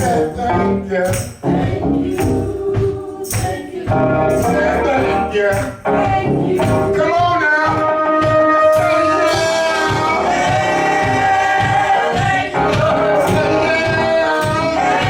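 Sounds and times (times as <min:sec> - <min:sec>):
gospel singing with instruments: 0:00.0 - 0:15.0.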